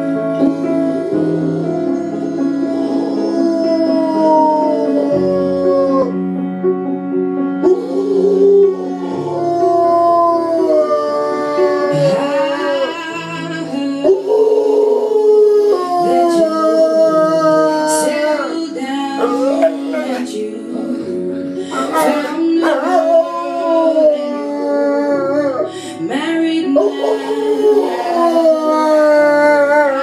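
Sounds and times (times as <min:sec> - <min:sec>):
dog howling: 0:00.0 - 0:06.2, 0:07.6 - 0:25.7, 0:26.8 - 0:30.0
music: 0:00.0 - 0:30.0.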